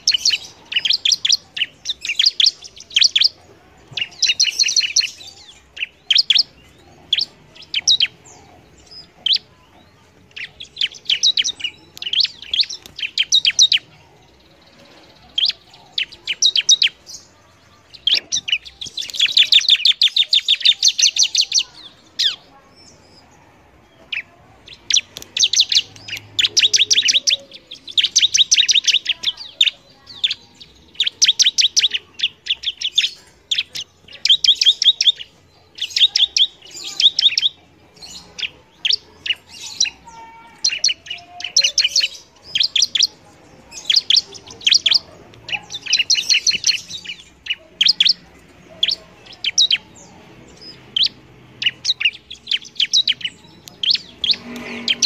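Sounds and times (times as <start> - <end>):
bird singing rapid high chirps: 0.0 - 23.3, 23.9 - 55.0.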